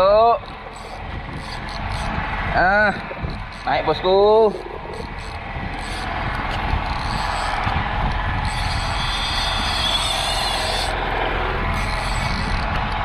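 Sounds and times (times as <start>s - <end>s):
fishing reel gears whirring: 0.0s - 13.0s
higher whine: 0.0s - 13.0s.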